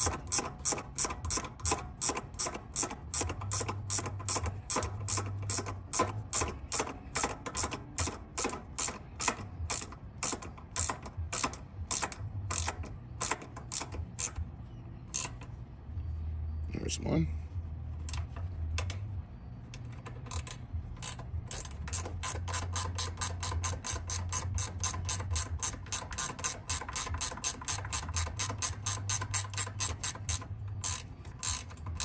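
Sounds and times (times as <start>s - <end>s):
ratchet wrench clicking: 0.0s - 14.5s, 15.1s - 15.6s, 19.7s - 32.0s.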